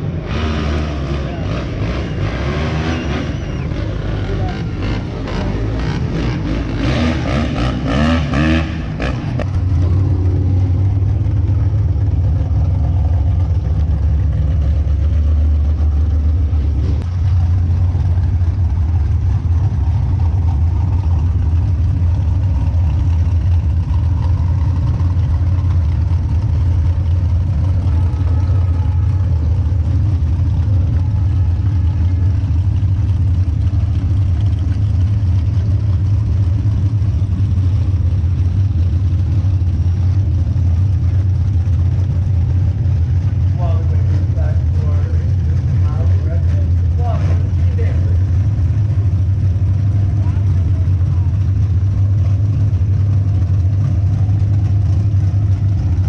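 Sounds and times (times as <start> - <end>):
vehicle engine revving and rumbling: 0.0 - 56.0.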